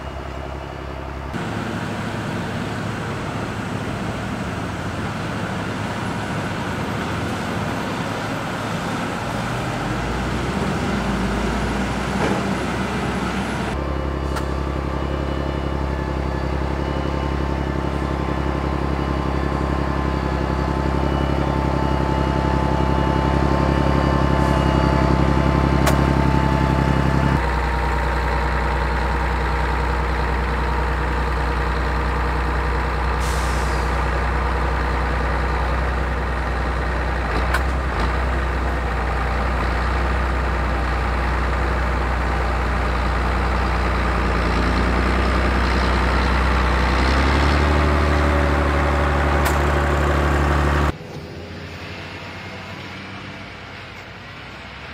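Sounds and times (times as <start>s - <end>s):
tractor diesel engines under load: 0.0s - 54.9s.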